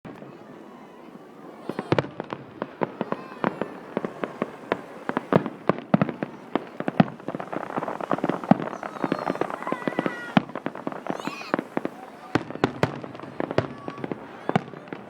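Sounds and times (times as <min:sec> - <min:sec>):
fireworks bangs: 0:00.1 - 0:15.0
fireworks crackle: 0:00.1 - 0:15.0.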